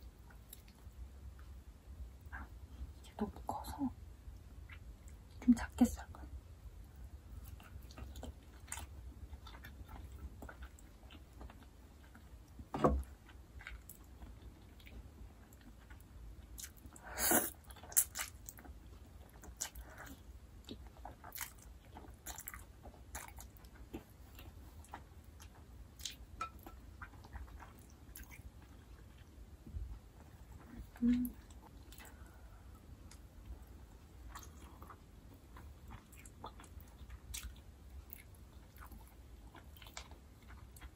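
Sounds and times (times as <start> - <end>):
person chewing noodles: 7.3 - 29.5, 30.1 - 40.9.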